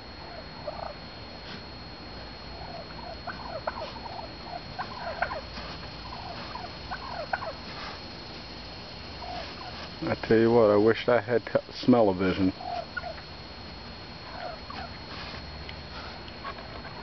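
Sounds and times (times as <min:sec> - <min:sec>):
turkey hens calling: 0:00.0 - 0:01.6, 0:02.2 - 0:17.0.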